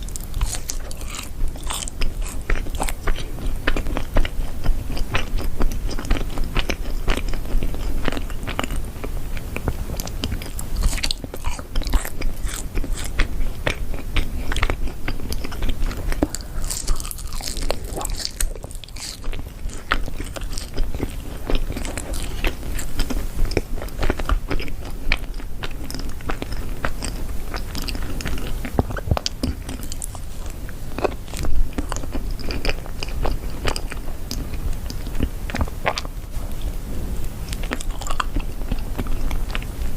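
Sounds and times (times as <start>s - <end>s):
crunchy chewing of cookies: 0.0s - 39.9s.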